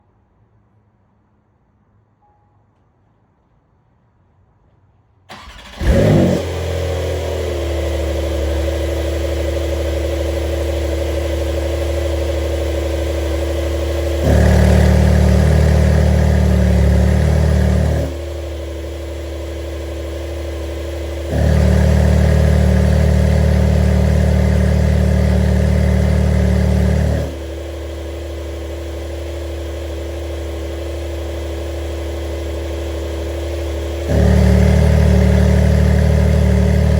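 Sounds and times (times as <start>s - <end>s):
car engine cranking: 5.3s - 31.2s, 31.8s - 36.9s
car engine idling: 5.3s - 36.9s.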